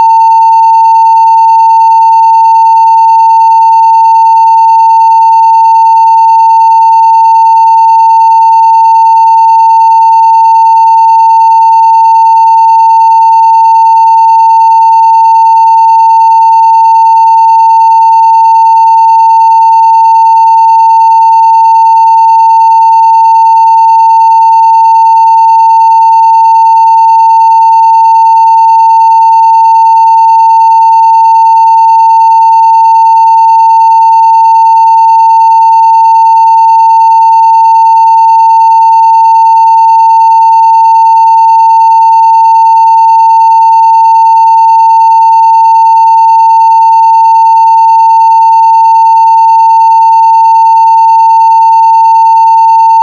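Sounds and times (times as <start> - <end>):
sine-wave test tone: 0.0 - 53.0.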